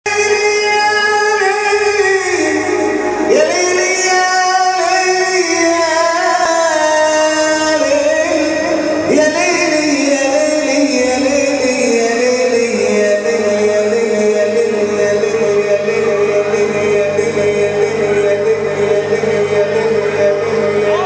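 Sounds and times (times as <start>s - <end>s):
vocal melody of long held notes: 0.0s - 21.0s.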